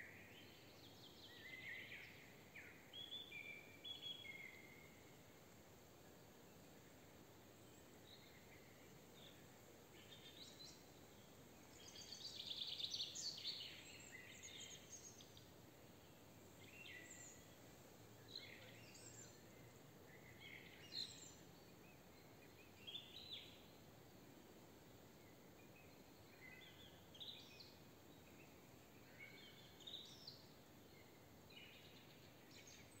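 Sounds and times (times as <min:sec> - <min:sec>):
soft open air hiss: 0:00.0 - 0:33.0
songbirds chirping: 0:00.0 - 0:33.0.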